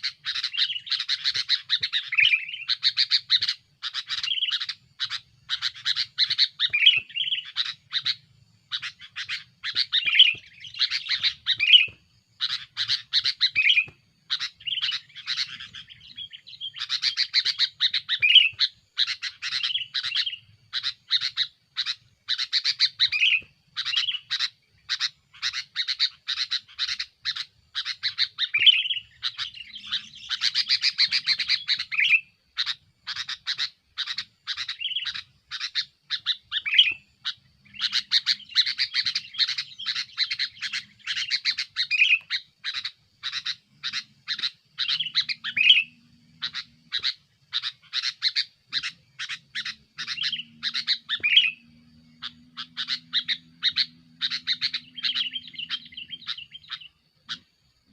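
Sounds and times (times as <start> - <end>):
bulbul chirping: 0.0 - 57.6.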